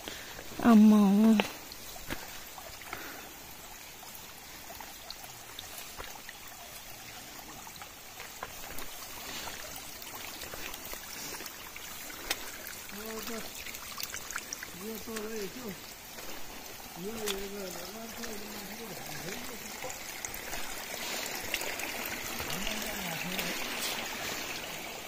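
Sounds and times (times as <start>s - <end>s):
running trickling water: 0.0s - 25.0s.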